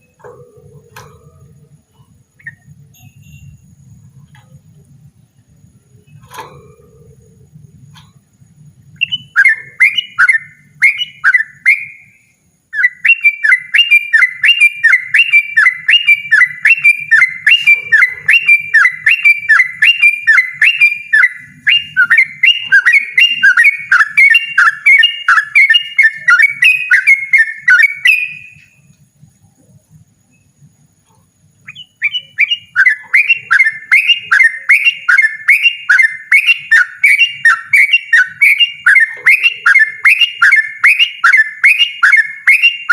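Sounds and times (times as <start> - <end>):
bulbul singing rapid repeated notes: 5.4 - 28.8, 31.0 - 42.9.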